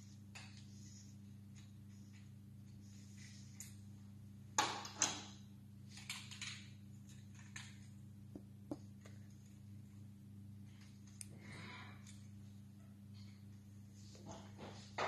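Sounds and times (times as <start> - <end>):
steady low hum: 0.0 - 4.6, 5.4 - 15.0.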